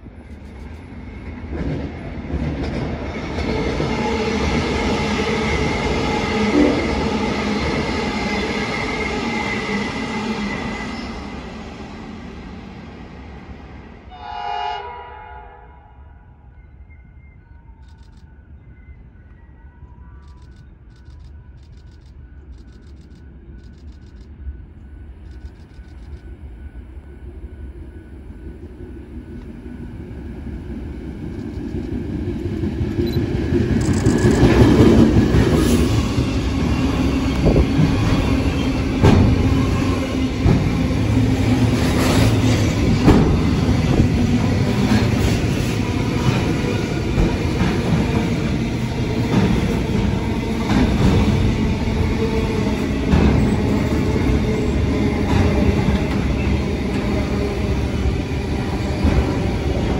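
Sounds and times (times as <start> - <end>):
freight train rumbling: 0.0 - 14.2, 15.4 - 59.9.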